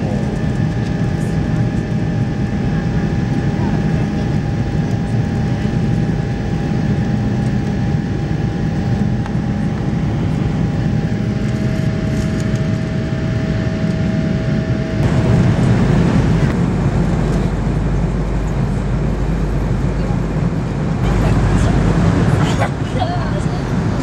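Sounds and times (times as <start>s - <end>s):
faint steady whine: 0.0s - 24.0s
low roar of engines and airflow: 0.0s - 24.0s.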